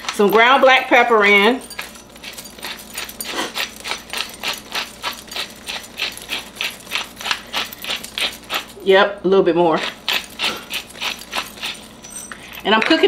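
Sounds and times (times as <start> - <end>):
pepper mill grinding: 0.0 - 9.0, 9.6 - 13.0.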